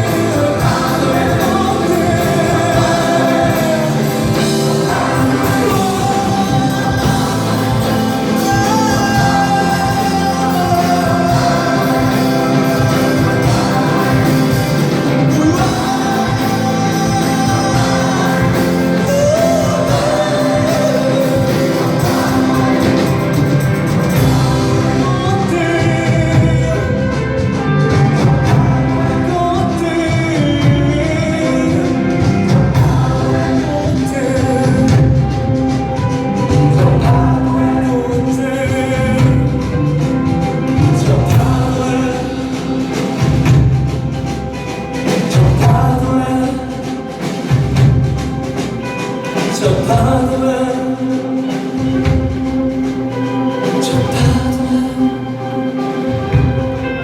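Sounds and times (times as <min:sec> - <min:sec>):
live rock band: 0:00.0 - 0:57.0
person singing: 0:00.0 - 0:57.0.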